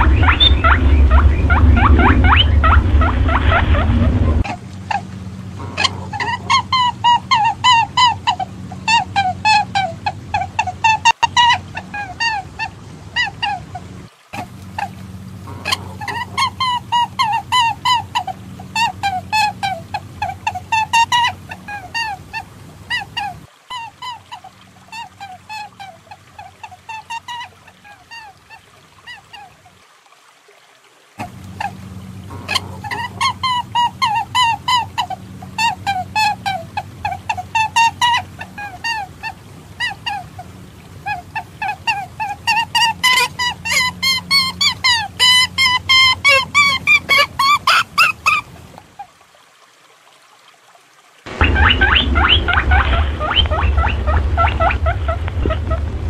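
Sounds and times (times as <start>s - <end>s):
rapid squawking calls: 0.0s - 13.7s, 14.4s - 28.3s, 31.2s - 48.5s, 51.3s - 55.8s.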